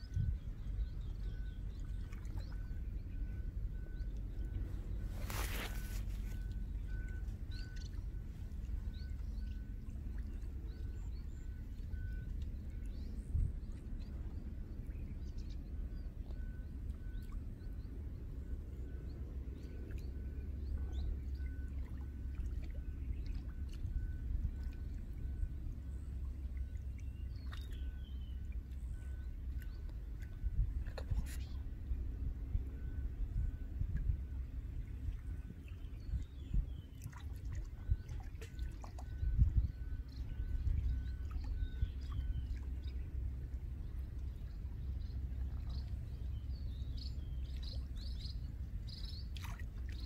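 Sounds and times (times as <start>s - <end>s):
birds chirping: 0.0s - 22.1s, 24.0s - 33.6s, 37.8s - 50.0s
steady low rumble: 0.0s - 50.0s.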